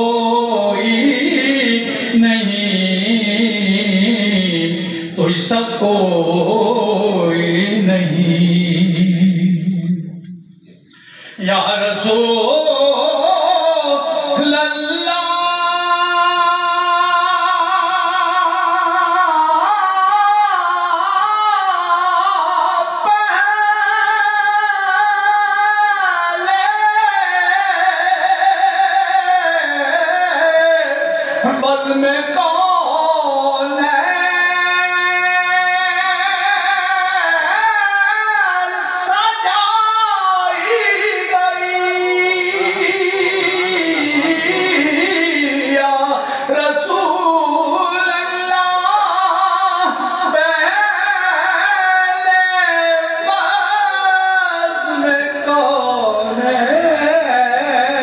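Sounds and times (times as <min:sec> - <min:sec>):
man singing into a microphone: 0:00.0 - 0:58.0.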